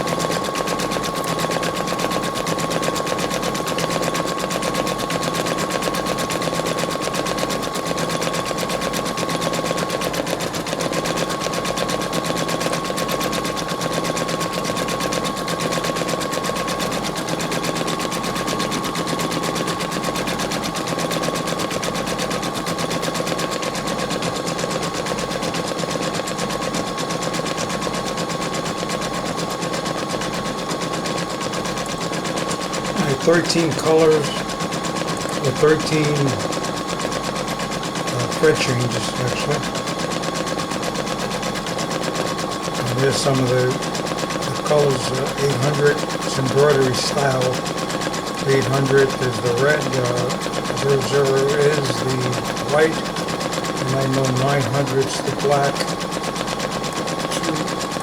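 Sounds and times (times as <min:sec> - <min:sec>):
machine high whine: 0:00.0 - 0:58.0.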